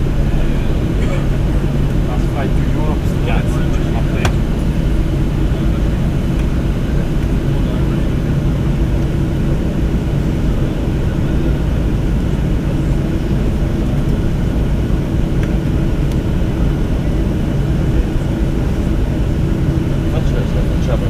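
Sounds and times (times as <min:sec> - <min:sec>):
cabin low rumble: 0:00.0 - 0:21.0
faint constant hum: 0:00.0 - 0:21.0.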